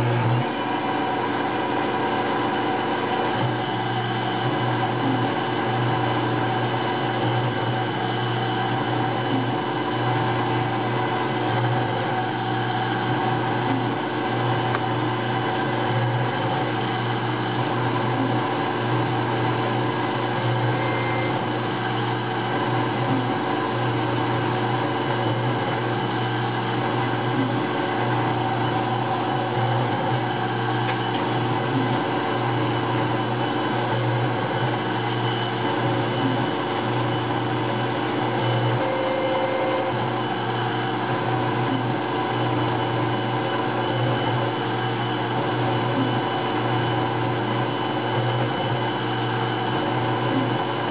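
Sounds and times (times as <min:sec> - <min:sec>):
milling machine running: 0:00.0 - 0:50.9.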